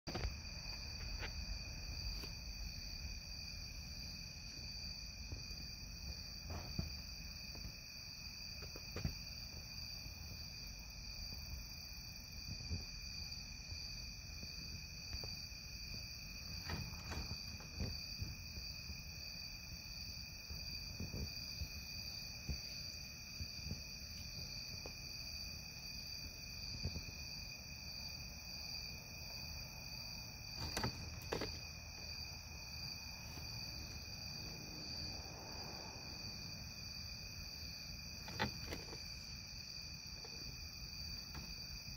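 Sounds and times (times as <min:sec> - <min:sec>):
night insects singing: 0:00.1 - 0:41.9.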